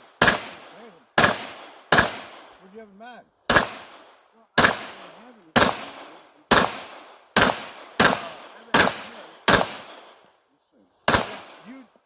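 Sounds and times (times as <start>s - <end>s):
gunshots with short echo: 0.0s - 2.5s, 3.5s - 10.2s, 11.1s - 11.8s.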